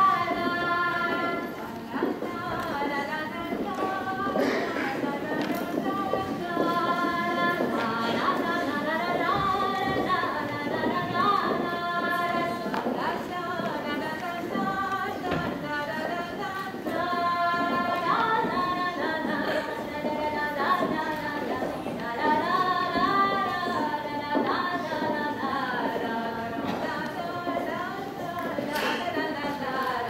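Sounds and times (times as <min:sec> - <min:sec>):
voices singing a dance tune: 0:00.0 - 0:30.0.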